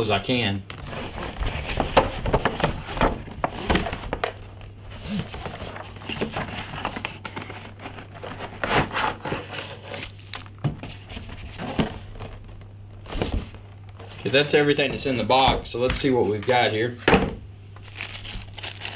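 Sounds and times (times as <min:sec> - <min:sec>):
cardboard and plastic rustling: 0:00.7 - 0:16.7, 0:17.8 - 0:18.9.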